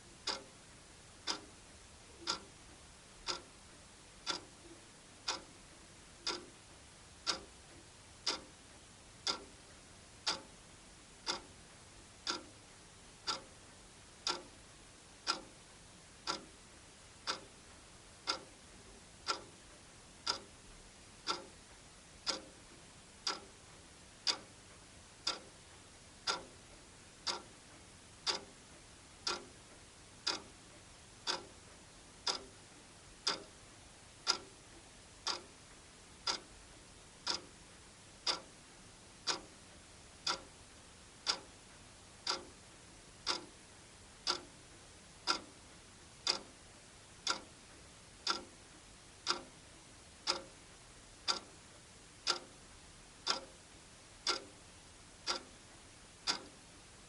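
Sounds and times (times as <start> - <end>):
wall clock ticking: 0.0 - 10.6, 11.2 - 15.6, 16.2 - 16.6, 17.2 - 33.6, 34.2 - 37.6, 38.2 - 56.8.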